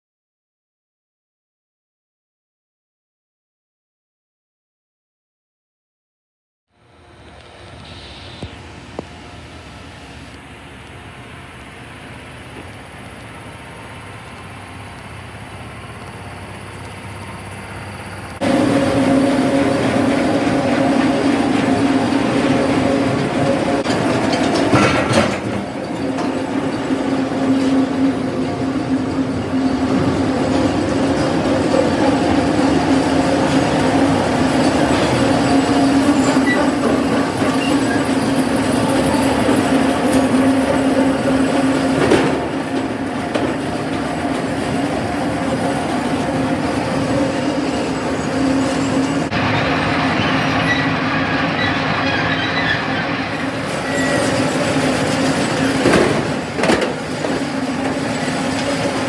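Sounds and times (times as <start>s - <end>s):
machinery drone: 6.7s - 59.0s.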